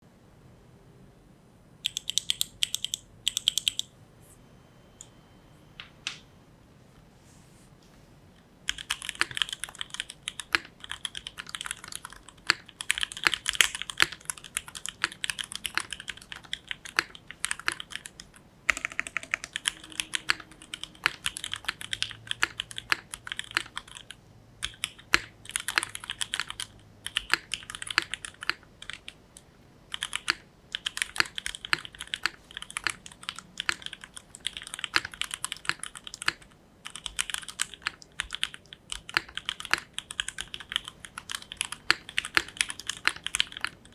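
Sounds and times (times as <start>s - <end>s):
mechanical keyboard typing: 1.8s - 3.9s, 8.6s - 43.9s.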